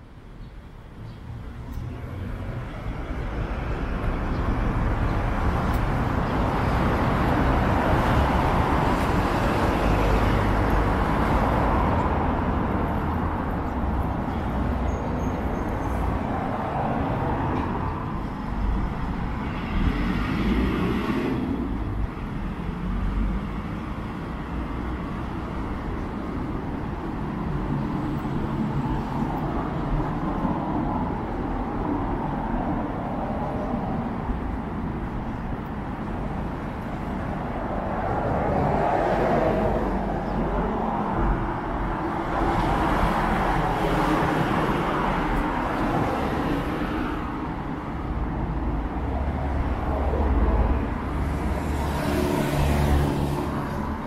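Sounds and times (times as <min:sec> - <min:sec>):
urban background noise: 0:00.0 - 0:54.0
vehicles passing by: 0:00.0 - 0:54.0.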